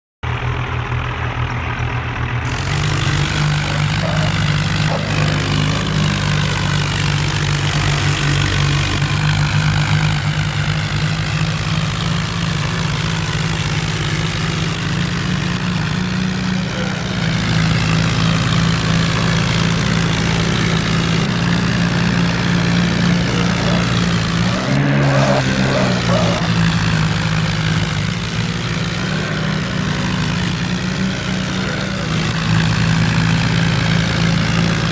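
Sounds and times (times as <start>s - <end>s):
tractor diesel engines under load: 0.2s - 34.9s.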